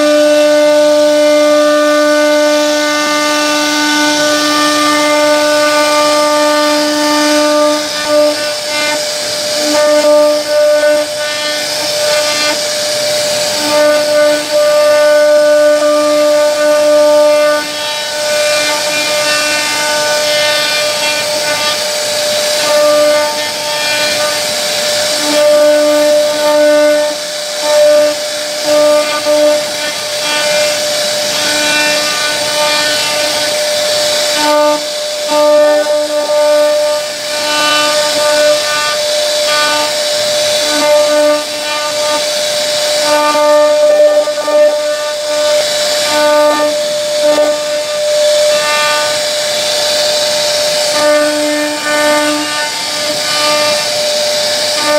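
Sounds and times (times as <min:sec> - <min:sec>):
router bit cutting wood hiss: 0:00.0 - 0:54.9
router spindle whine: 0:00.0 - 0:54.9.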